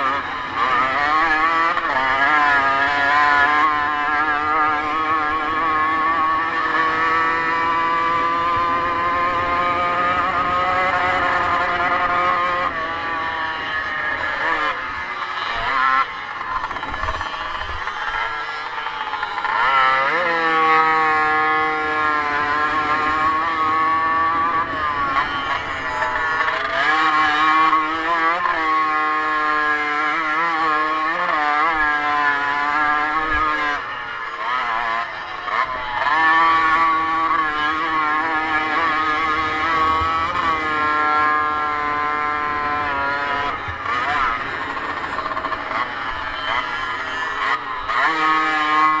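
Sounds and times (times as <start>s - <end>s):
motocross engine revving: 0.0s - 49.0s.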